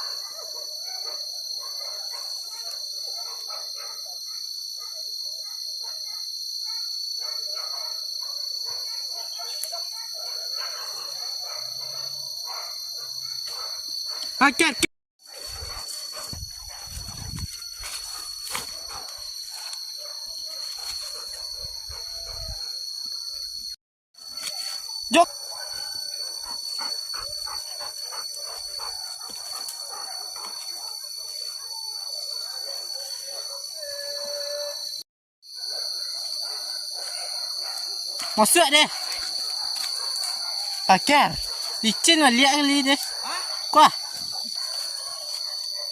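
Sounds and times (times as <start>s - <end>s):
hunting dogs yelping and baying: 0.0s - 14.6s, 15.3s - 23.6s, 24.3s - 35.0s, 35.6s - 45.9s
high-pitched insect drone: 0.0s - 45.9s.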